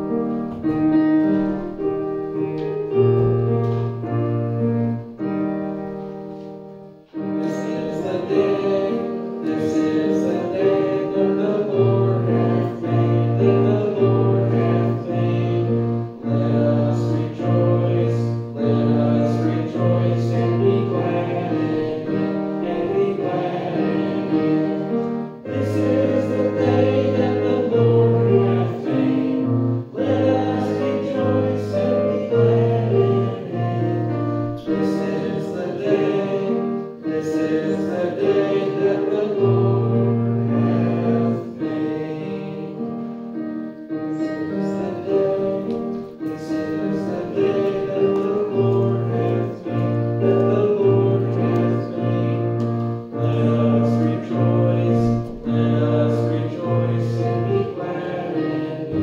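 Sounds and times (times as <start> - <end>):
congregation singing a hymn: 0.0 - 59.0
piano accompaniment: 0.0 - 59.0.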